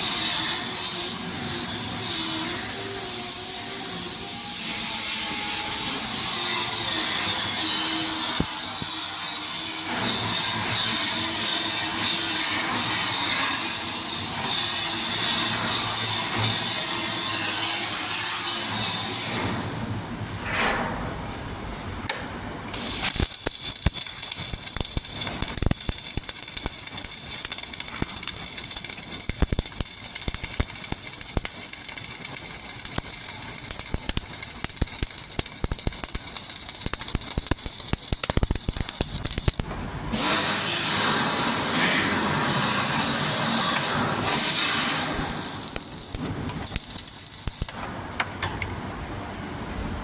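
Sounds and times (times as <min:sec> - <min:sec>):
welding arc crackling hiss: 0:00.0 - 0:20.0, 0:22.7 - 0:47.8.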